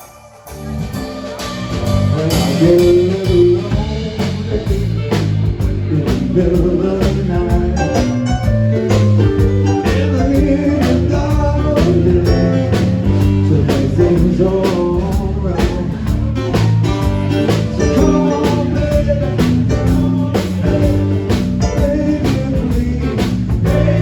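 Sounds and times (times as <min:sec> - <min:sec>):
person singing: 0:00.0 - 0:08.2, 0:09.7 - 0:16.2, 0:17.6 - 0:24.0
drum kit steady beat: 0:00.0 - 0:24.0
guitar: 0:00.0 - 0:24.0.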